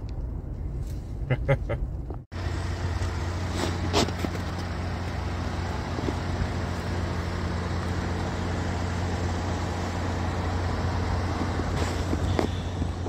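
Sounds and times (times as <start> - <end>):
vehicle engine idling: 2.3 - 13.0.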